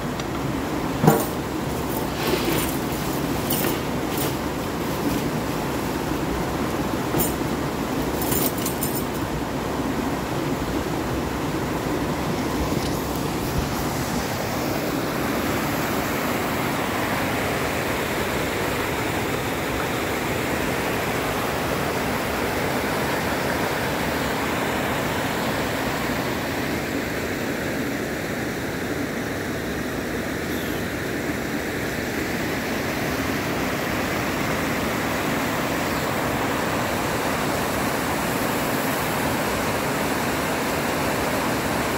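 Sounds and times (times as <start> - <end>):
whitewater rushing over rocks: 0.0 - 41.9.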